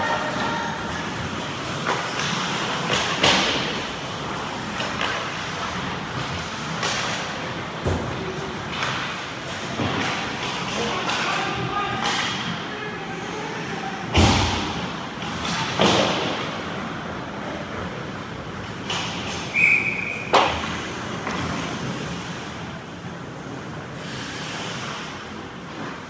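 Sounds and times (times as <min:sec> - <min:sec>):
arena noise: 0:00.0 - 0:23.6.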